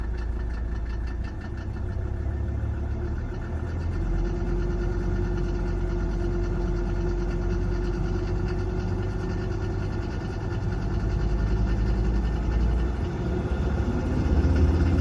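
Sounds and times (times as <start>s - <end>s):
diesel engine idling: 0.0s - 15.0s
steady engine tone: 0.0s - 15.0s.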